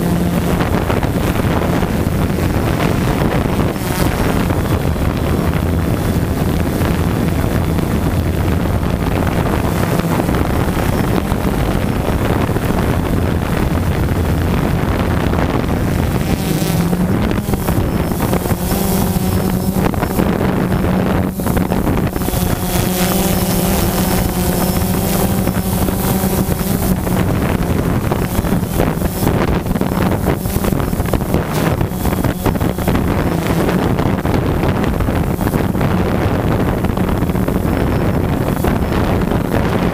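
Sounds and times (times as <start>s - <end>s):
drone motors droning: 0.0s - 39.9s
wind buffeting microphone: 0.0s - 39.9s.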